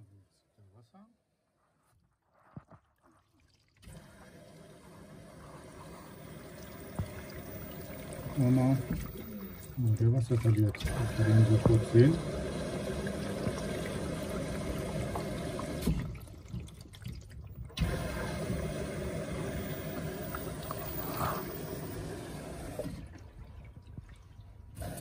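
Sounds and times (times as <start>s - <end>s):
water running into washer: 3.3s - 25.0s.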